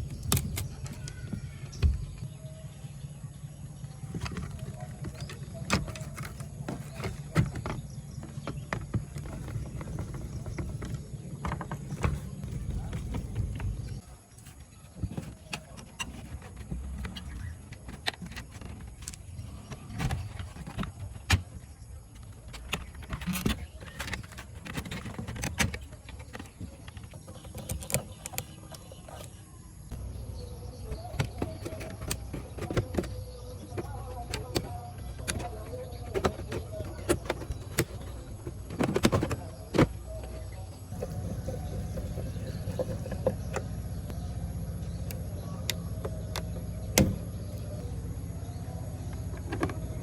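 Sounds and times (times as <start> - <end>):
low hum with faint tones: 0.0 - 50.0.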